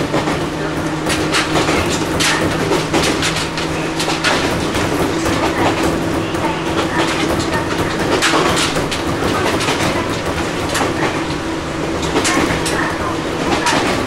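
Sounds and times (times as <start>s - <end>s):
rail-joint clatter: 0.0s - 14.0s
train motor hum: 0.0s - 14.0s.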